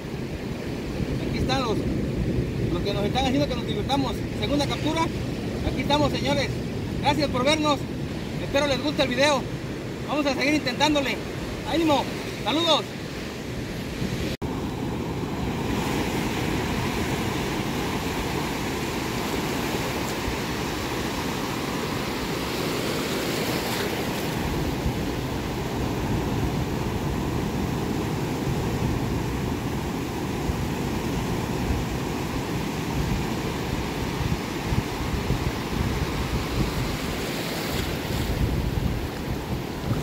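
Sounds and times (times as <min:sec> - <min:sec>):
ocean surf breaking: 0:00.0 - 0:40.0.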